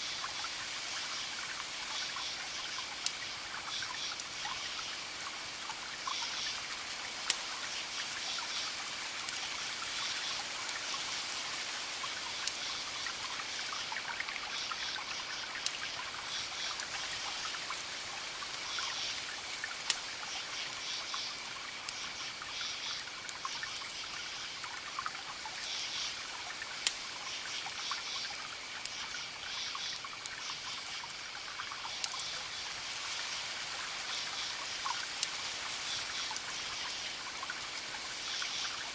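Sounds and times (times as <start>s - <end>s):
crickets chirping: 0.0s - 38.9s
campfire crackling and popping: 0.1s - 38.9s.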